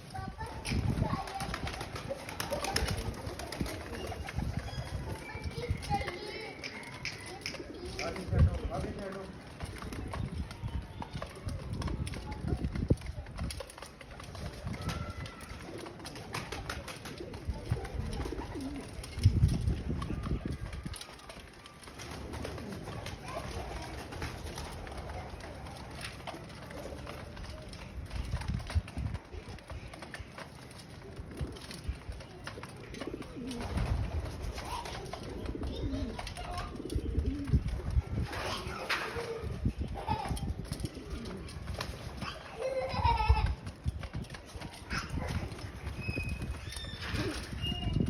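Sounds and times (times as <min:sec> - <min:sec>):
pigeons cooing: 0:00.9 - 0:10.3, 0:14.3 - 0:28.5, 0:29.1 - 0:48.0.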